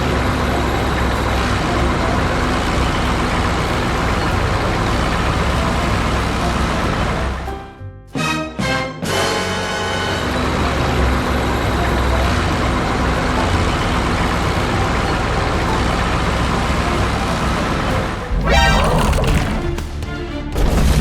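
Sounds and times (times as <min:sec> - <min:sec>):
heavy vehicle engine running: 0:00.0 - 0:07.6, 0:09.7 - 0:20.0
traffic noise: 0:00.0 - 0:07.6, 0:09.9 - 0:19.9.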